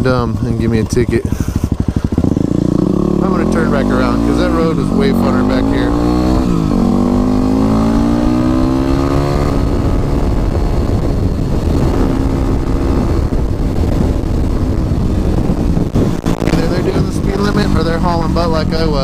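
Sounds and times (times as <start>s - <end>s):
motorcycle engine accelerating: 0.0s - 19.0s
wind noise: 0.0s - 19.0s.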